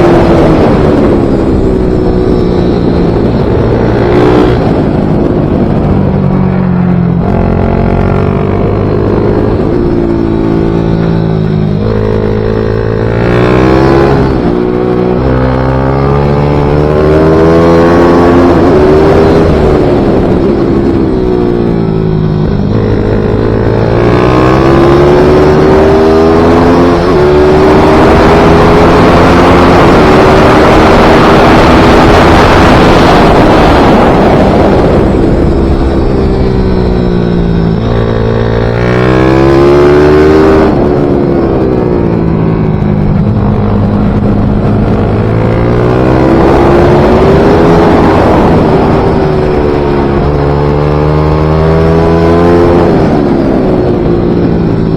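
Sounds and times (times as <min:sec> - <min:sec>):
pit bike racing engine: 0:00.0 - 0:54.9.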